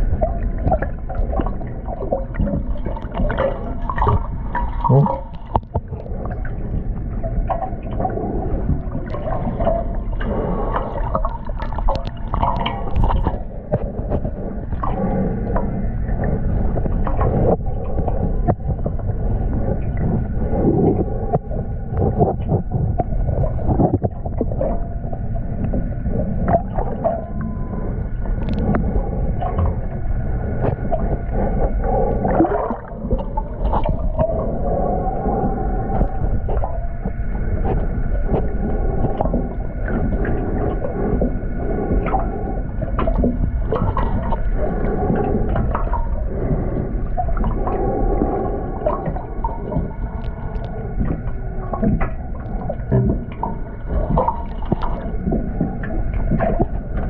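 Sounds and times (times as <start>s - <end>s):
air bubbles rising: 0.0s - 57.0s
faint steady tones: 0.0s - 57.0s
underwater sloshing and gurgling: 0.0s - 57.0s.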